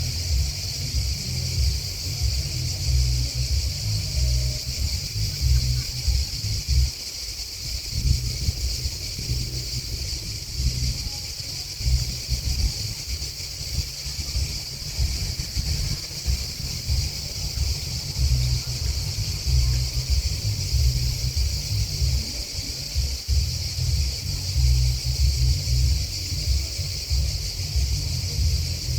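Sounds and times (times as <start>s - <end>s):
insects chirping: 0.0s - 28.9s
wind buffeting microphone: 0.0s - 28.9s.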